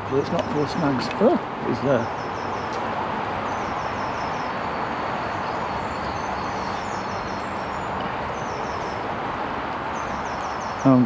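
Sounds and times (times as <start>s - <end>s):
small bird chirping: 0.1s - 9.1s, 9.7s - 11.0s.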